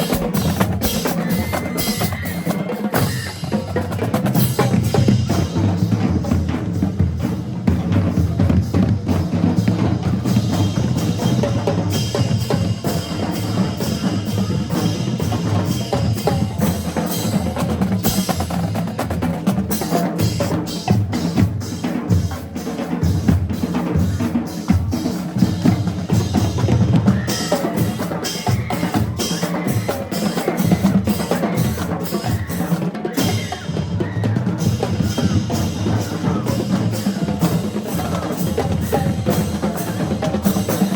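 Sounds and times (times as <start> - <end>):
snare drums: 0.0 - 40.9.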